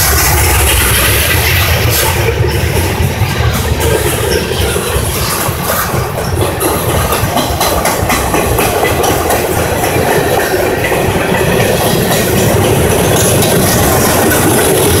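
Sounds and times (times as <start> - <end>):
train wheels rumbling on rails: 0.0 - 15.0
wheels clicking over track: 0.0 - 15.0.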